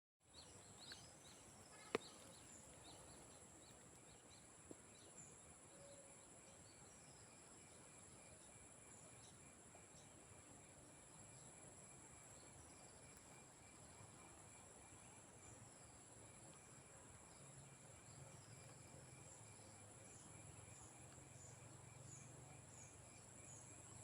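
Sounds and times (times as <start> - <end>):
faint bird chirps: 0.2 - 24.0
crickets chorus: 0.3 - 24.0.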